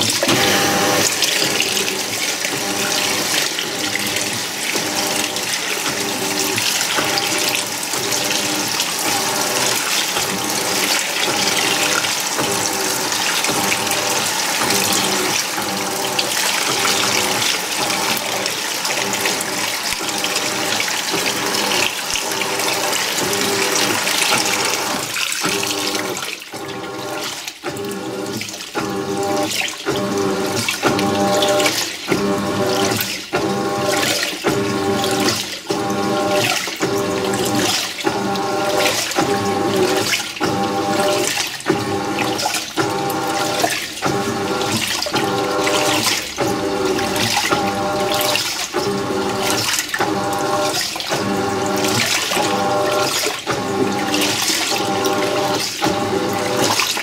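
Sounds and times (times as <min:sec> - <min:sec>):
washing machine motor hum: 0:00.0 - 0:57.0
water churning and sloshing: 0:00.0 - 0:57.0.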